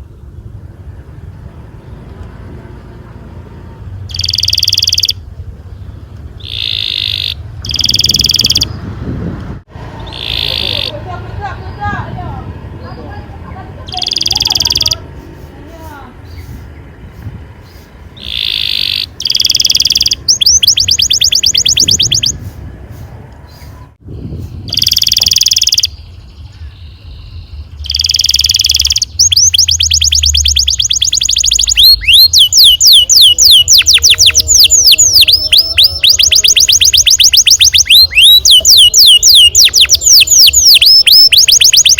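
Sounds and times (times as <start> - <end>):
canary singing: 4.0 - 8.9, 9.8 - 22.5, 23.4 - 41.9.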